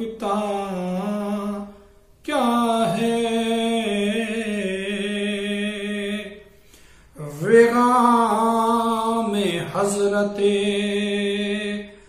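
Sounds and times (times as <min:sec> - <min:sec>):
man singing unaccompanied: 0:00.0 - 0:06.5, 0:07.2 - 0:12.0.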